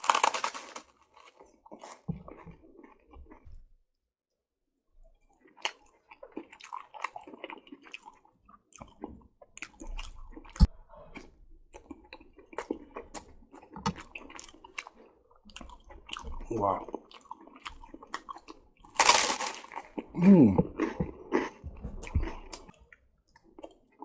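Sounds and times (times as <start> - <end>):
wet chewing of noodles: 0.0 - 3.7, 5.0 - 24.0.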